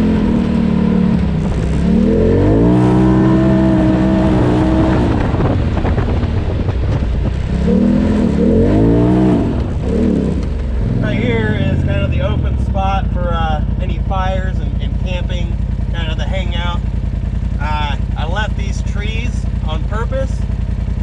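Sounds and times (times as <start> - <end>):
turbocharged engine accelerating: 0.0 - 21.0.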